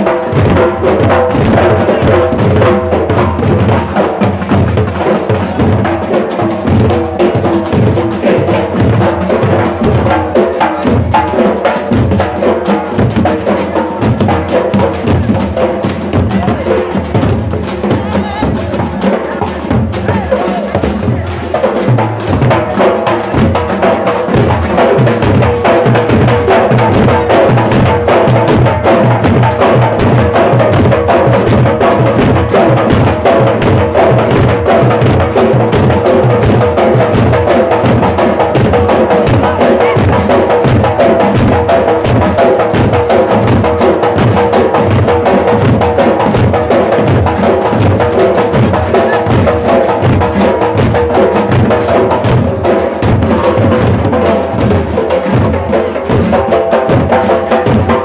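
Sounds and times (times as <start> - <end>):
steel drums beaten fast: 0.0 - 58.0.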